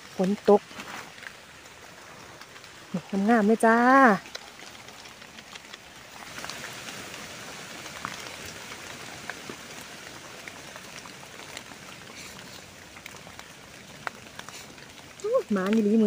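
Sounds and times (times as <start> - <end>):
rain on leaf litter: 0.0 - 16.0
sharp drip ticks: 1.2 - 16.0.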